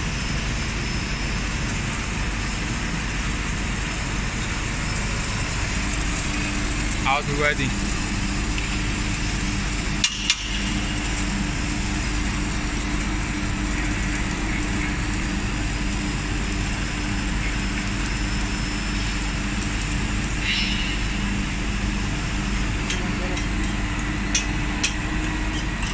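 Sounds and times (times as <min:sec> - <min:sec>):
welding machine humming: 0:00.0 - 0:25.9.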